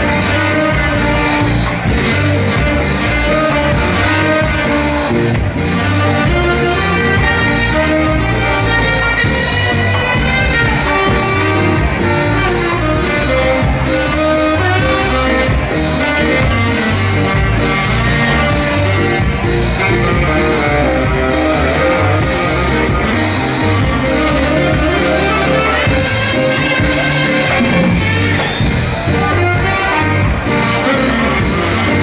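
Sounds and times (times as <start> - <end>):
ska band playing: 0.0 - 32.0.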